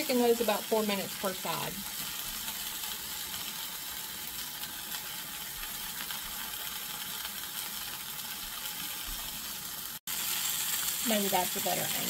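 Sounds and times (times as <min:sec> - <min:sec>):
steaks sizzling in oil: 0:00.0 - 0:12.0.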